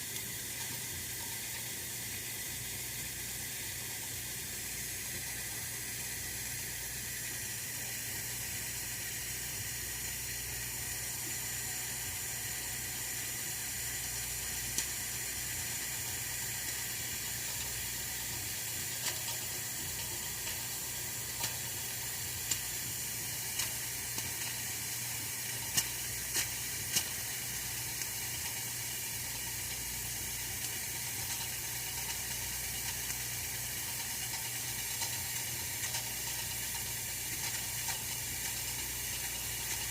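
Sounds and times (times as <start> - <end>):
radiator heater hiss: 0.0 - 39.9.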